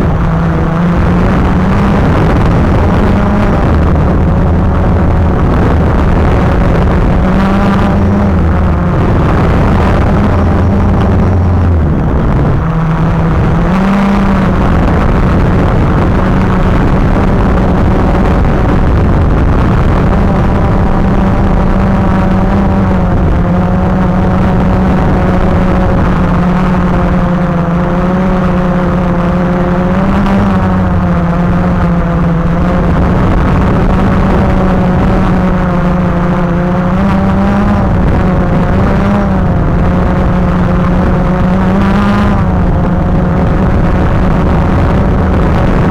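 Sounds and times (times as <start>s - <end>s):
drone propellers humming: 0.0s - 45.9s.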